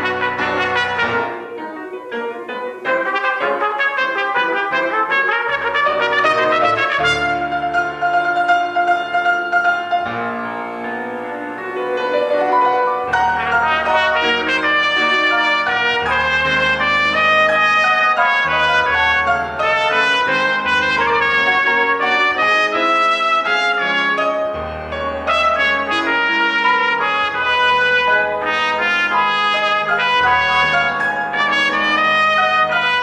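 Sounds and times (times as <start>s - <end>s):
low piano chords: 0.0s - 33.0s
trumpet playing: 0.0s - 33.0s.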